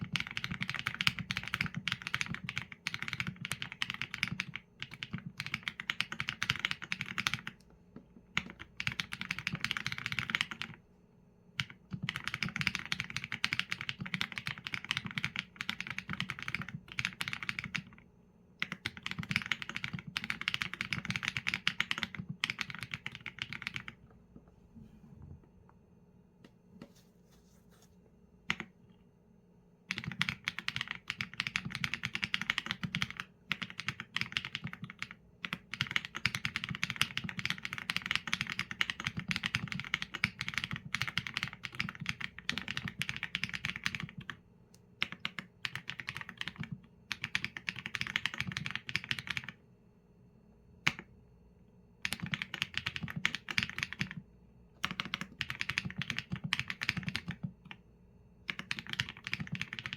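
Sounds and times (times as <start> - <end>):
mechanical keyboard typing: 0.0 - 7.6, 8.3 - 10.8, 11.6 - 18.0, 18.6 - 24.0, 28.5 - 28.7, 29.9 - 44.4, 45.0 - 49.6, 52.0 - 54.2, 54.8 - 57.8, 58.4 - 59.9.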